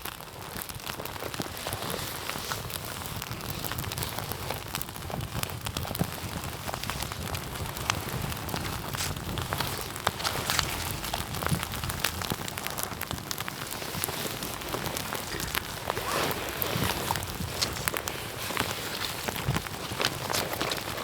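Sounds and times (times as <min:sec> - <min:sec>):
burning wood crackling and popping: 0:00.0 - 0:21.0
low rumble of flames: 0:00.0 - 0:21.0.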